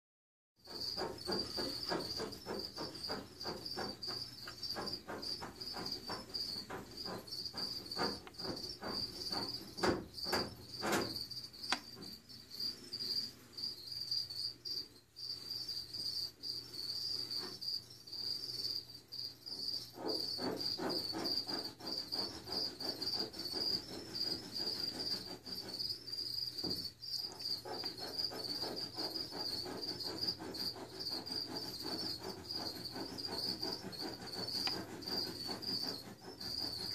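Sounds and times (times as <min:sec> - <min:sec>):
crickets chirping: 0:00.6 - 0:36.9.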